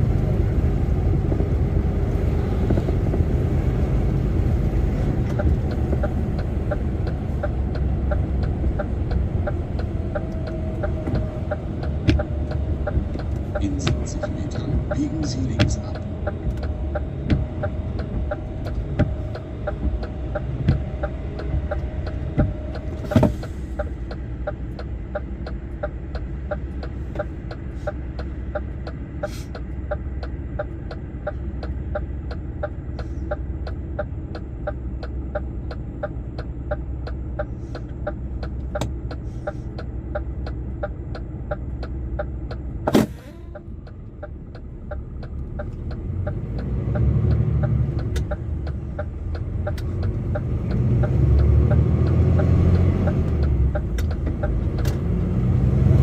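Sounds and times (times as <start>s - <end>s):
lorry engine running: 0.0s - 56.0s
turn signal indicator ticking: 1.3s - 56.0s.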